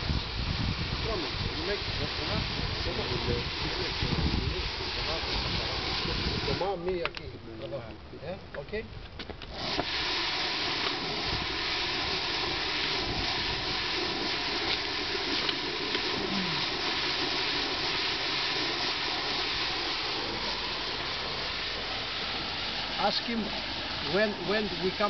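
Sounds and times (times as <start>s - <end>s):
taping machine whirring hiss: 0.0s - 7.0s, 9.4s - 25.0s.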